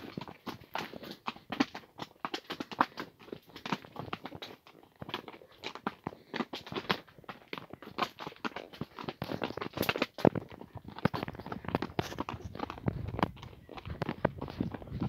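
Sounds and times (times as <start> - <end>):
horse hooves on stony trail: 0.0 - 15.0.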